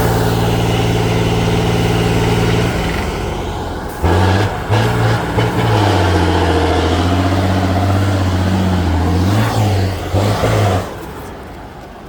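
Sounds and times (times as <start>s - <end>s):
truck engine revving hard: 0.0s - 11.9s.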